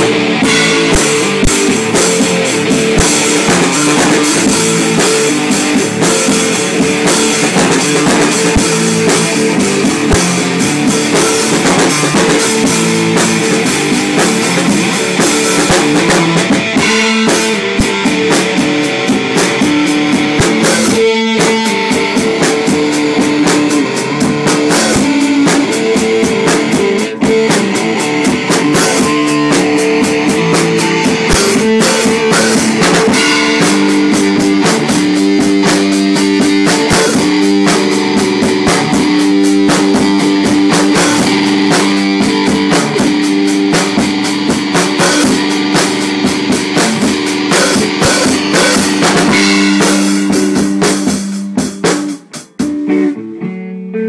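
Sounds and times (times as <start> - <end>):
drum kit beat: 0.0 - 53.7
electric guitar chords: 0.0 - 54.0.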